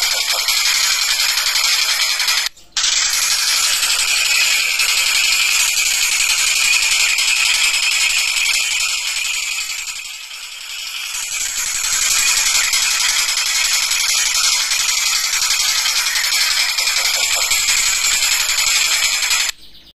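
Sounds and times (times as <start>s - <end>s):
kingfisher rattling call: 0.0s - 19.5s.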